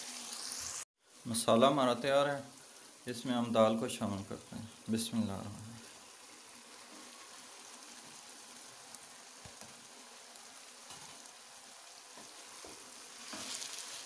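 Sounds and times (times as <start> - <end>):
lentils sizzling in a wok: 0.0 - 14.0.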